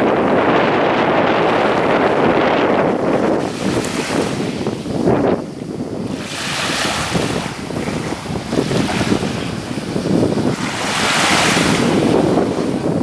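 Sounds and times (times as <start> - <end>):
wind buffeting microphone: 0.0 - 13.0
waves washing up shingle: 0.1 - 13.0.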